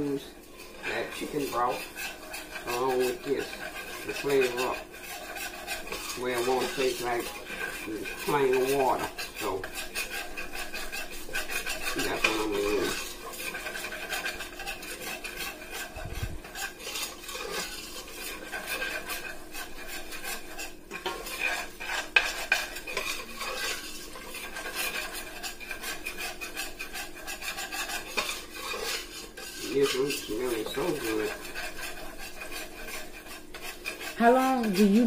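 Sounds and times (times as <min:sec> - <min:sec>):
spoon scraping a metal pot: 0:00.0 - 0:35.0.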